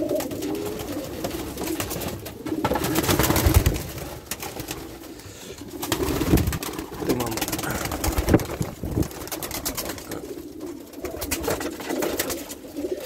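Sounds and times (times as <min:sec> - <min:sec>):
birds rustling: 0:00.0 - 0:13.0
pigeons cooing: 0:00.0 - 0:13.0.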